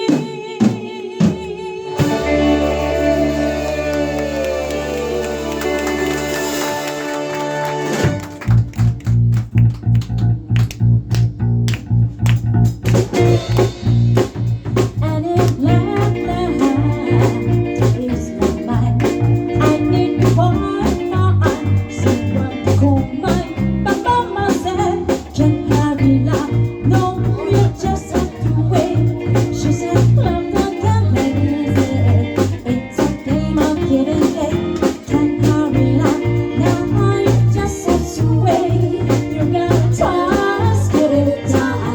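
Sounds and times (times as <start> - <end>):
drums: 0.0 - 41.9
guitar: 0.0 - 41.9
bass line: 2.0 - 41.9.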